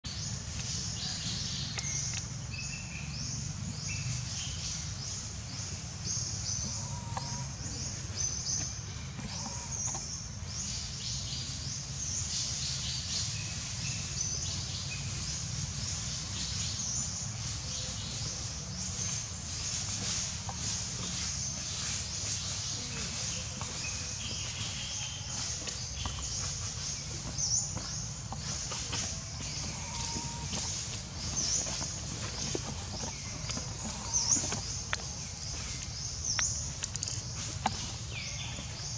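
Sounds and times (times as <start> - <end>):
birds chirping: 0.1 - 38.9.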